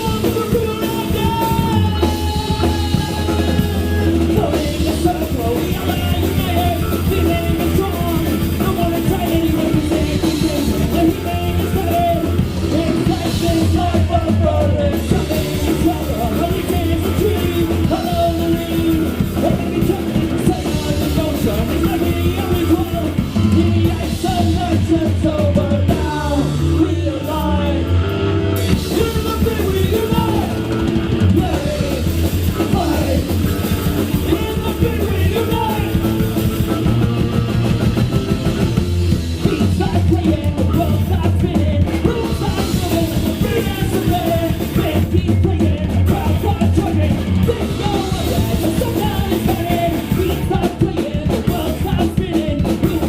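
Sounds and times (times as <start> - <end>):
person singing: 0.0 - 28.0, 28.7 - 37.3, 39.3 - 53.0
drum kit: 0.0 - 53.0
live rock band playing: 0.0 - 53.0.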